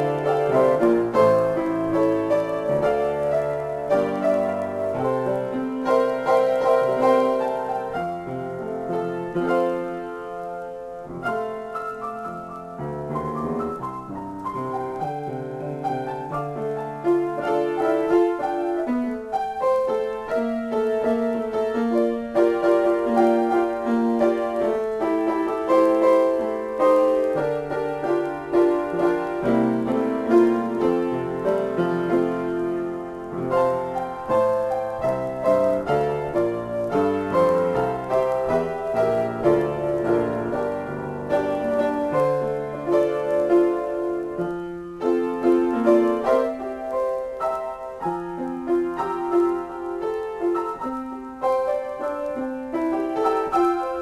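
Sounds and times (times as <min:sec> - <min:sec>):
piano bass line: 0:00.0 - 0:54.0
solo piano chords and melody: 0:00.0 - 0:54.0.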